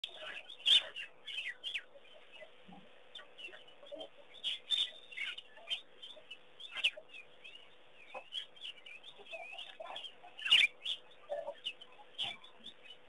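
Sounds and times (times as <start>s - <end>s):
birds chirping and whistling: 0.1s - 13.0s.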